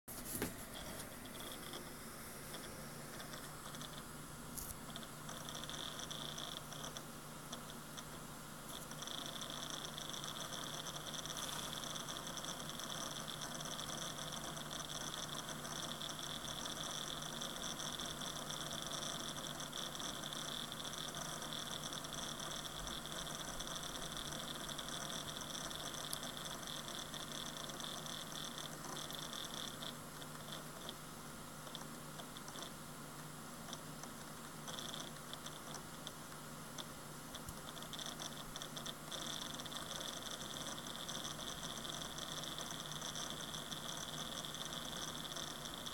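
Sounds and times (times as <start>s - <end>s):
hard drive high whine: 0.1s - 45.9s
hard drive hiss and hum: 0.1s - 45.9s.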